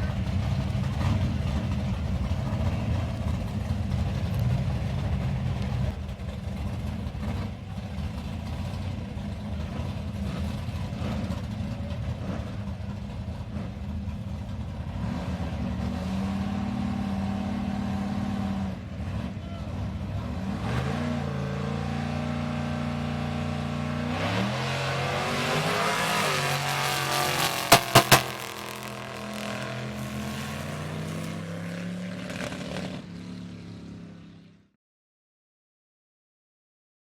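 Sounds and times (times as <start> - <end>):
drag-race car engines rumbling: 0.0 - 34.7.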